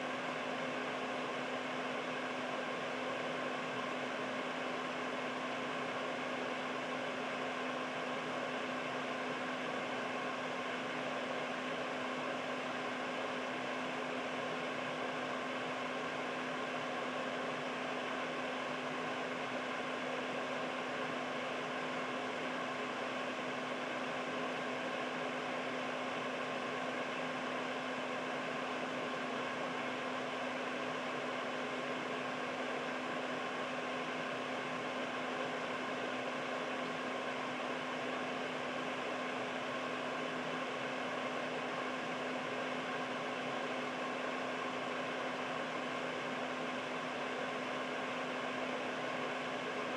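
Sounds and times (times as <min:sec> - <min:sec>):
air purifier fan running: 0:00.0 - 0:49.9.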